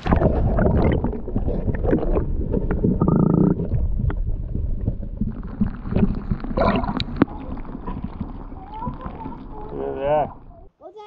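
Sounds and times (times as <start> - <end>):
muffled underwater water rumble: 0.0 - 10.7.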